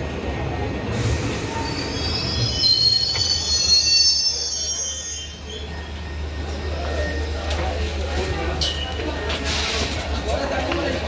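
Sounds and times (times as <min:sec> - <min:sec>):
low train rumble: 0:00.0 - 0:11.0
train wheels squealing on rails: 0:00.9 - 0:10.2.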